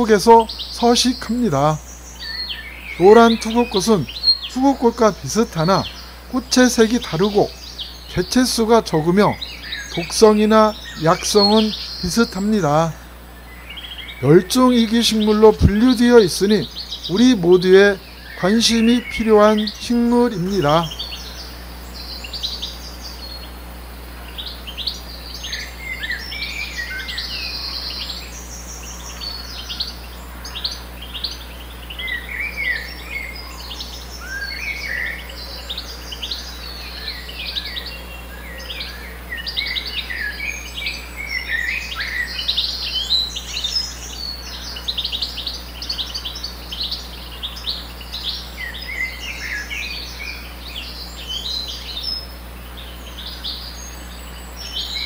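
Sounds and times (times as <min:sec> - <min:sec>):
birds chirping and singing: 0:00.0 - 0:55.0
faint low hum: 0:00.0 - 0:55.0.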